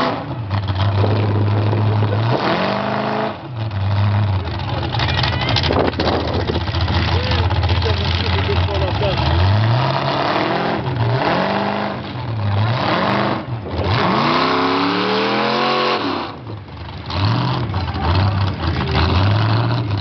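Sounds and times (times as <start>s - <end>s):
truck engine revving: 0.0s - 20.0s
tyres churning mud: 0.0s - 20.0s.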